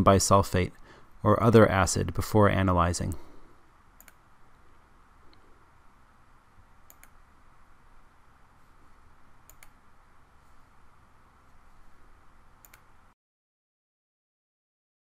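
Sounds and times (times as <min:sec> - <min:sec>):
faint room hiss: 0:00.0 - 0:13.2.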